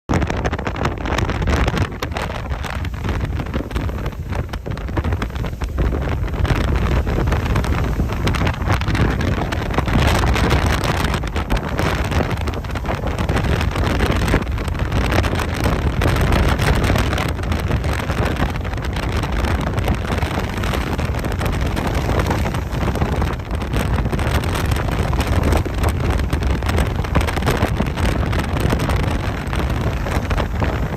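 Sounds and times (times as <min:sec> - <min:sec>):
rolling waves: 0:00.1 - 0:30.9
wind buffeting microphone: 0:00.1 - 0:30.9.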